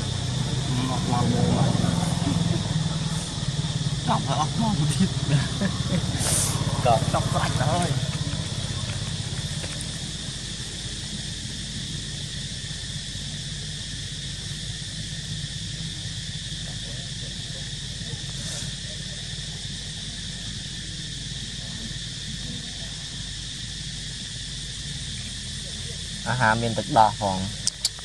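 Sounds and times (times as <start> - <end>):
insect chorus droning: 0.0 - 28.0
low steady hum: 0.0 - 28.0.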